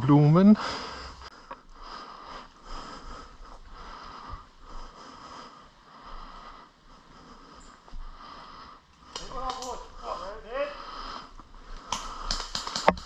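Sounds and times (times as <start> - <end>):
person breathing close to microphone: 0.6 - 12.9.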